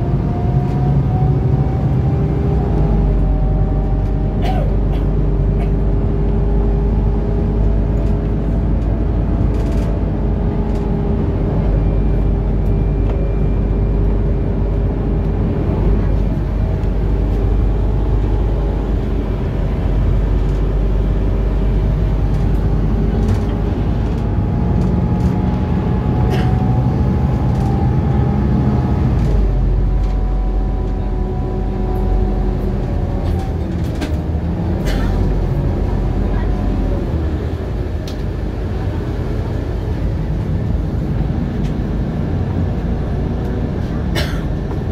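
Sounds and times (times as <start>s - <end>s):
bus engine and driveline hum: 0.0s - 44.9s.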